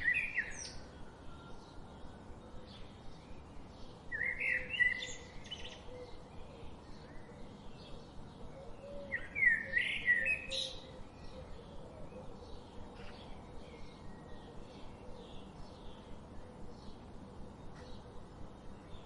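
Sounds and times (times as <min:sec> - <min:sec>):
bird warbling song: 0:00.0 - 0:18.1
steady background hiss: 0:00.0 - 0:19.0.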